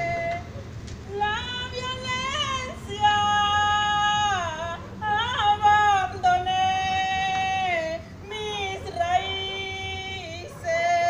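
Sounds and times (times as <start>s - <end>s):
woman singing unaccompanied chant: 0.0s - 11.0s.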